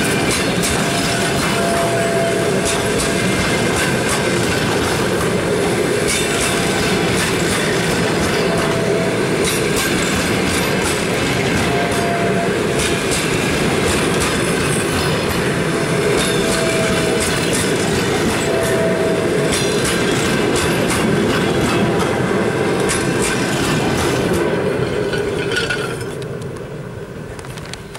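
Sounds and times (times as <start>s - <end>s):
train coaches rumbling past: 0.0s - 27.9s
wheels clacking over rail joints: 0.0s - 27.9s.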